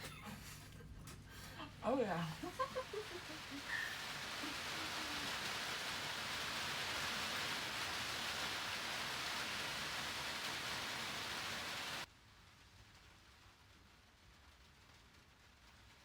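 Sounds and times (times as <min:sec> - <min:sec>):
rain falling on a truck: 0:01.1 - 0:16.0.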